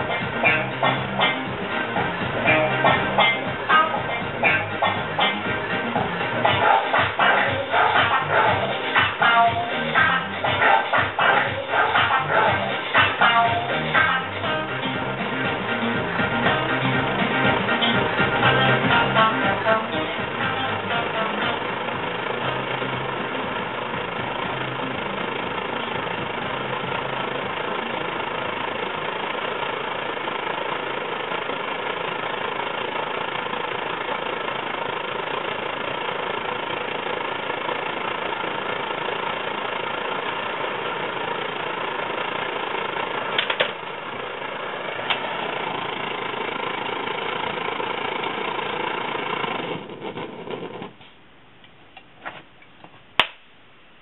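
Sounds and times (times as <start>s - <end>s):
stove burner roaring: 0.0s - 53.4s.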